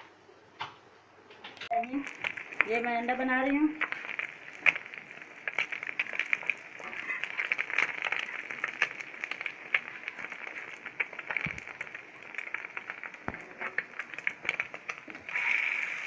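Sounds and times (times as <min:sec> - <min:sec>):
egg sizzling and popping in oil: 0:01.4 - 0:16.0.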